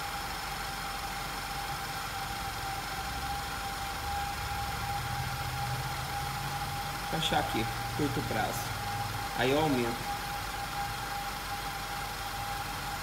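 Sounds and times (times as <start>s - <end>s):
car engine idling: 0.0s - 13.0s
high whistle of vacuum leak: 2.5s - 13.0s.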